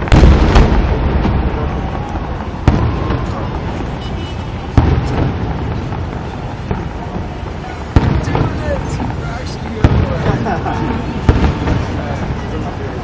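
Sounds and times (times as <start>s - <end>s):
fireworks booming: 0.0s - 13.0s
rumble of fireworks bursts: 0.0s - 13.0s.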